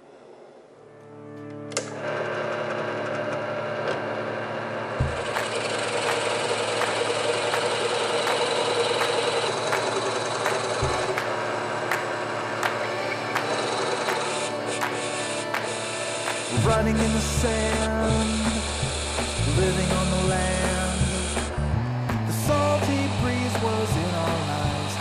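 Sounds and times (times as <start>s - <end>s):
drill press motor humming: 1.7s - 25.0s
drill bit cutting wood: 2.0s - 25.0s.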